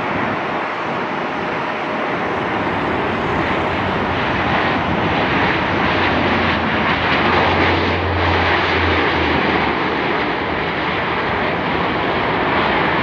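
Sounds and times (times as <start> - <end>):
low propeller drone: 0.0 - 13.0
turboprop engines rushing: 0.0 - 13.0.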